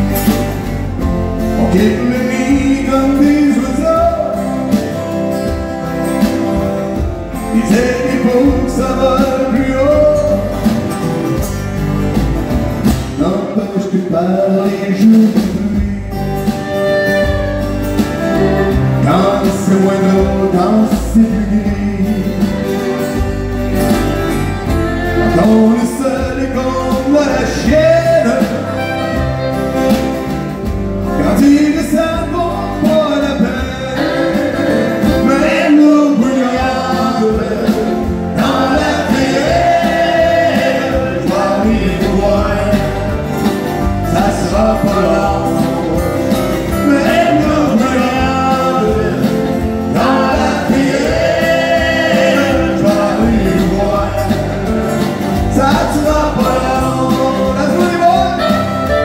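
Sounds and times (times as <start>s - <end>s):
strummed acoustic guitars: 0.0s - 59.0s
man singing: 1.0s - 5.2s, 6.2s - 11.0s, 13.0s - 17.5s, 18.2s - 23.2s, 24.6s - 28.9s, 31.0s - 59.0s.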